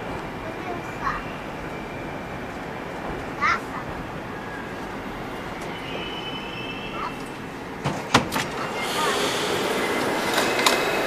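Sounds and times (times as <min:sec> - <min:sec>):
metro train running noise: 0:00.0 - 0:11.0.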